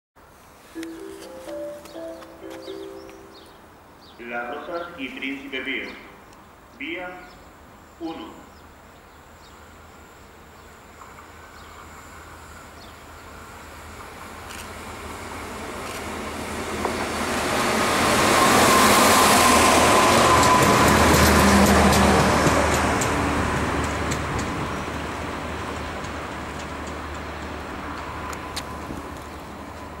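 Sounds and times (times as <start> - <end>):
rail vehicle passing: 0.2 - 30.0.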